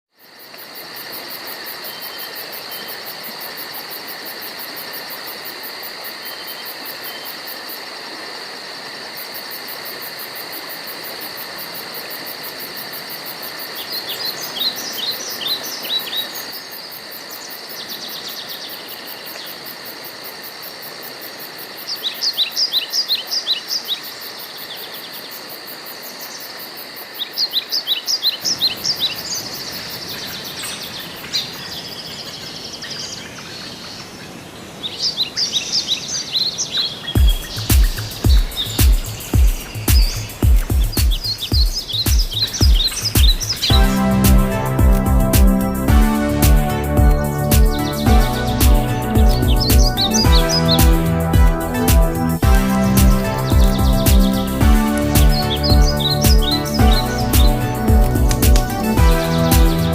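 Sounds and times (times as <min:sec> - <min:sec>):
insect chorus buzzing: 0:00.2 - 0:59.9.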